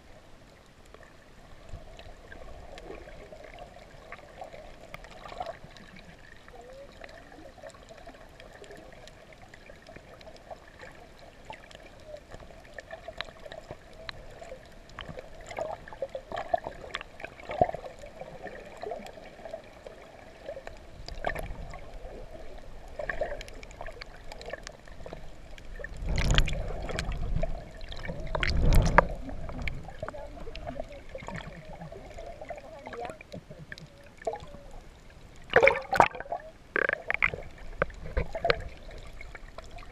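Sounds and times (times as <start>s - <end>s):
low rushes of moving water: 0.0s - 39.9s
muffled underwater wash: 0.0s - 39.9s
small clicks and crackles: 0.0s - 39.9s.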